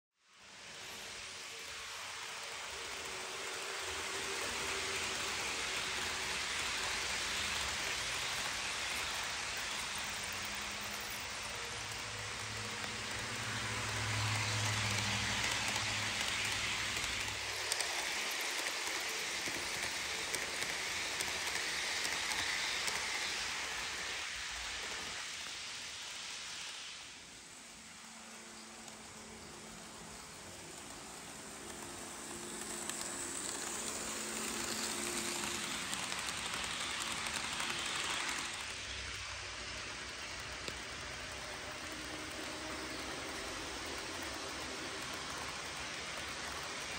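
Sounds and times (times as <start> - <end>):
model train wheels hissing on rail: 0.2 - 46.9.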